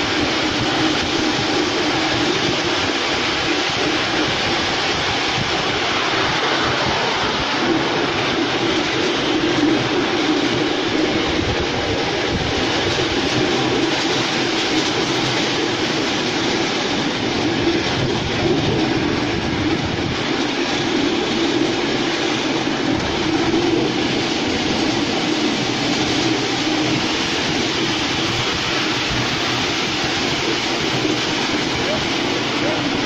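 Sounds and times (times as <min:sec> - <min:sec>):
train wheels rolling on rails: 0:00.0 - 0:33.0.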